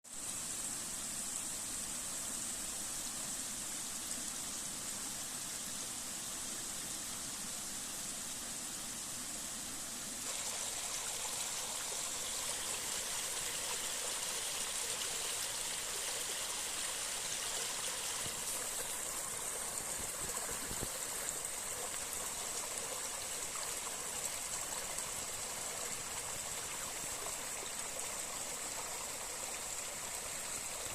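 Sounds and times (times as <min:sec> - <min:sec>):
stream water rushing: 0:02.5 - 0:30.9.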